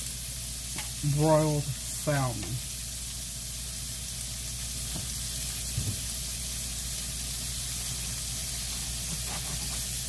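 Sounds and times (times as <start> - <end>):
shrimp deep-frying in oil: 0.0 - 10.0.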